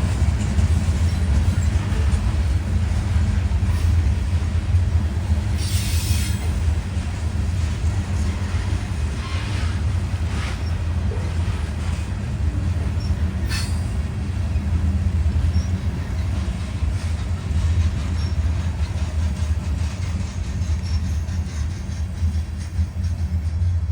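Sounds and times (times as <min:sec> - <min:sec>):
freight train wheels rumbling: 0:00.0 - 0:23.9.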